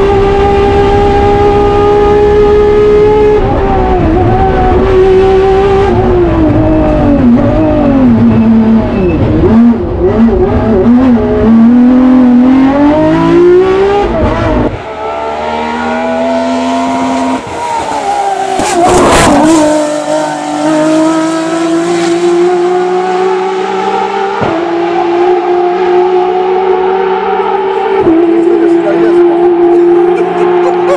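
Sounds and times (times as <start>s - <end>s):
race car engine revving: 0.0s - 30.9s.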